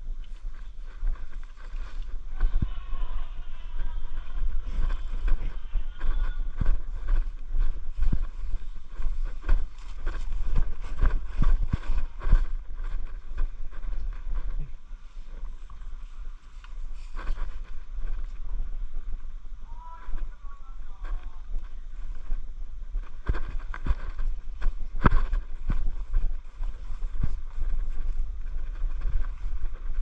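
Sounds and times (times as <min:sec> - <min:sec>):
rustling: 0:00.0 - 0:30.0
wind rumbling on microphone: 0:00.0 - 0:30.0.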